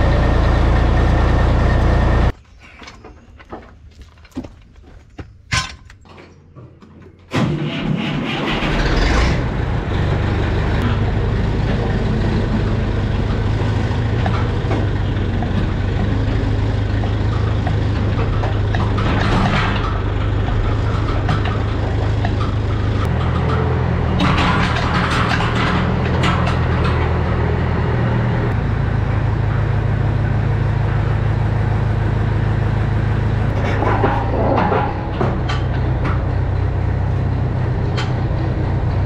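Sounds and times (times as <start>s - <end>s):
tractor diesel engine running: 0.0s - 2.4s, 7.3s - 39.0s.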